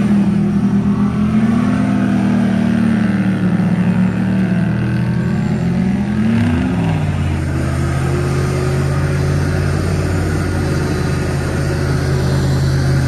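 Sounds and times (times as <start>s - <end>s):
engines at high revs: 0.0s - 13.0s
wheels spinning on snow: 0.0s - 13.0s.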